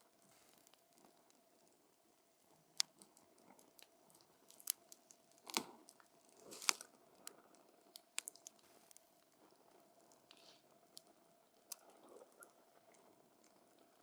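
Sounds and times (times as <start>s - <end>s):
wood fire crackling: 0.0s - 11.9s.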